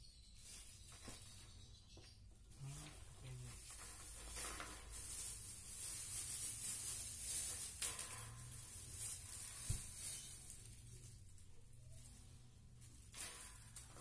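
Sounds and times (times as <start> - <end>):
plastic packaging rustling: 2.6 - 14.0.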